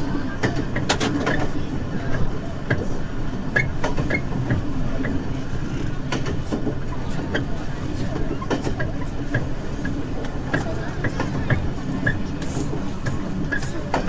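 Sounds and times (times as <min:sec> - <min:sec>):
train engine and wheel rumble: 0:00.0 - 0:14.0.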